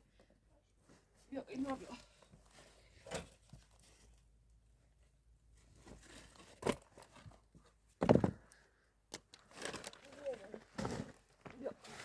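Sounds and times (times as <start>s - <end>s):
rustling crunching handling noises: 0.7s - 8.0s, 9.3s - 12.0s.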